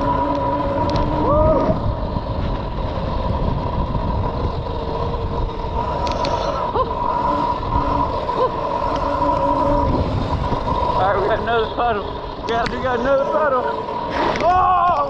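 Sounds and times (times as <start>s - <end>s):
mini bike engine whine: 0.0s - 15.0s.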